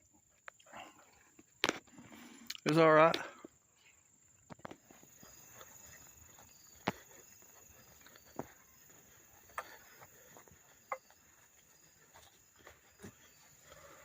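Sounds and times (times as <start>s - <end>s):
cricket chirps: 0.0s - 14.0s
insects buzzing: 0.0s - 14.0s.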